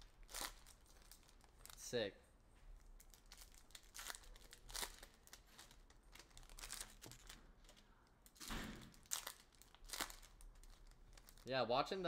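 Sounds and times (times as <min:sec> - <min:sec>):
card wrappers rustling and crinkling: 0:00.0 - 0:02.0, 0:02.7 - 0:11.6.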